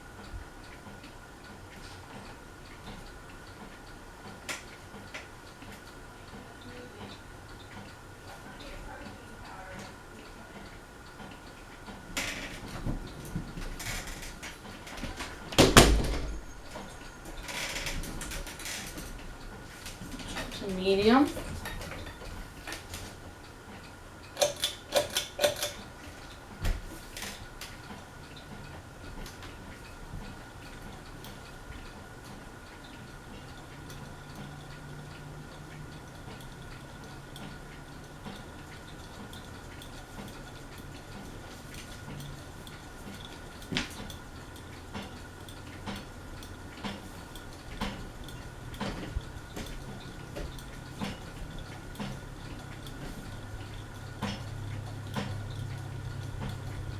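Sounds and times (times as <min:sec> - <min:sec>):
ceiling fan humming: 0:00.0 - 0:56.9
light clinks and ticks: 0:08.6 - 0:56.9.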